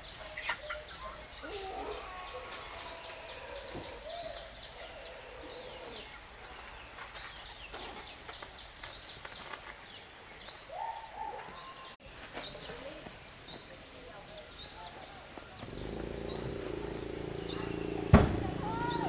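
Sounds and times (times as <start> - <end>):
birds chirping: 0.0 - 19.0
faint outdoor background: 0.0 - 19.0.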